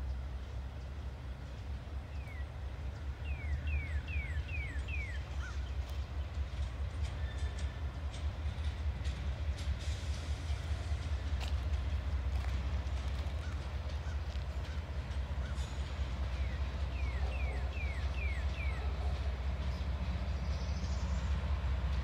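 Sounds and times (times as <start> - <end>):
distant diesel locomotive rumble: 0.0 - 22.0.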